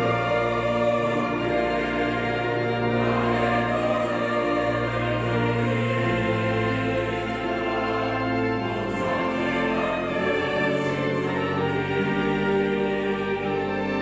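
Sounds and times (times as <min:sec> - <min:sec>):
choir singing with orchestra: 0:00.0 - 0:14.0.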